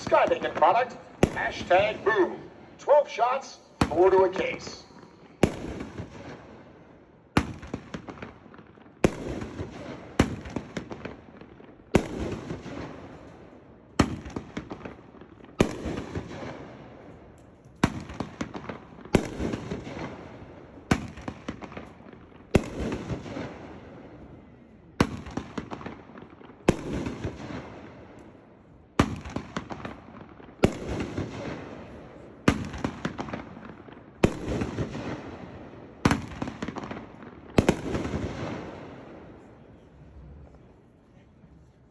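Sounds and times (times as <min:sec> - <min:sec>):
fireworks cake firing sharp reports: 0:00.0 - 0:17.1, 0:17.8 - 0:40.8.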